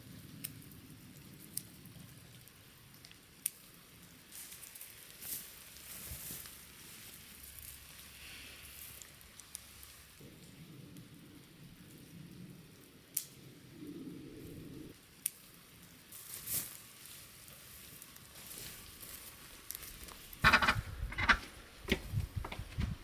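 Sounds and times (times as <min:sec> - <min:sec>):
faint rain patter: 0:00.0 - 0:20.5.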